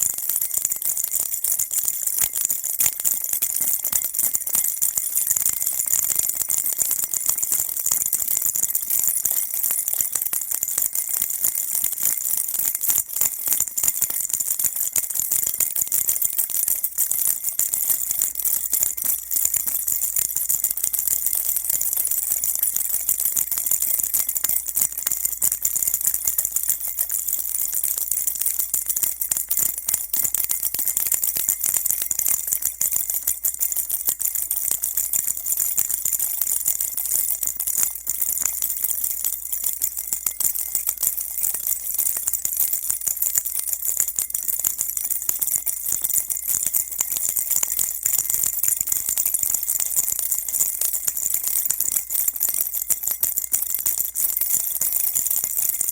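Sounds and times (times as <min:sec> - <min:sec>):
baby rattle shaken: 0:00.0 - 0:55.9.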